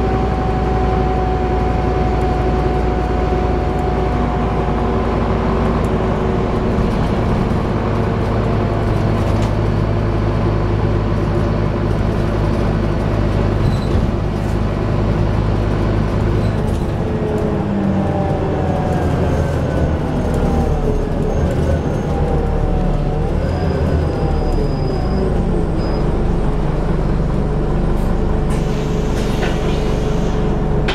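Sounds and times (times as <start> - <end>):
bus diesel engine working hard: 0.0 - 30.9.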